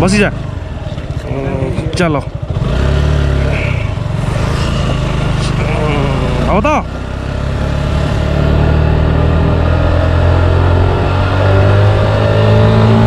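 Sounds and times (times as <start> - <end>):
motorcycle engines accelerating: 0.0 - 13.0.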